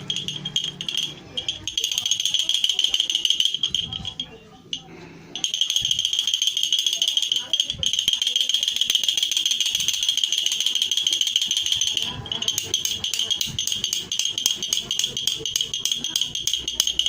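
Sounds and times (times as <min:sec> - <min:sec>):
toy bell ringing: 0:00.0 - 0:17.0.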